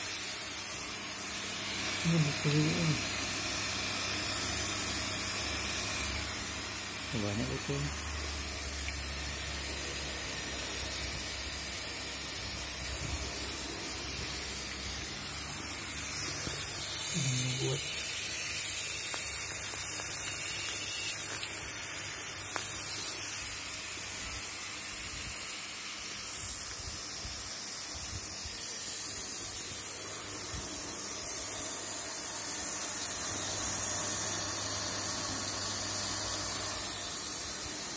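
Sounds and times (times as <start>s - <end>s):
pressurized water hissing: 1.5s - 37.9s.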